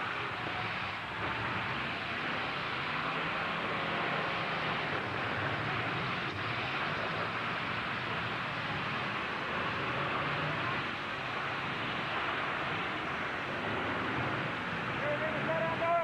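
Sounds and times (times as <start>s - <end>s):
truck engines running together: 0.0s - 15.9s.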